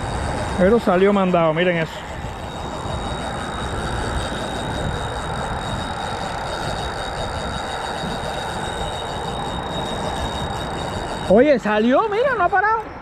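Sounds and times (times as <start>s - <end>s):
fishing reel drag whining: 0.0s - 13.0s
wind on microphone: 0.0s - 13.0s.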